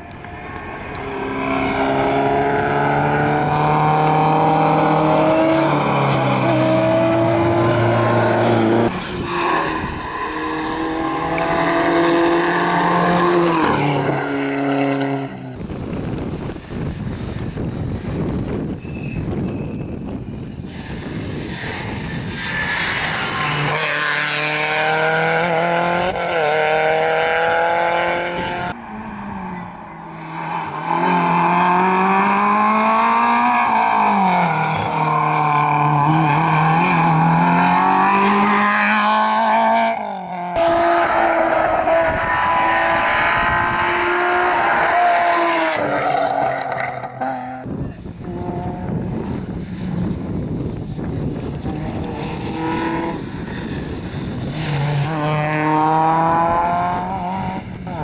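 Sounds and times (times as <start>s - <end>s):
rally car engines revving: 0.0s - 18.8s, 19.4s - 58.0s.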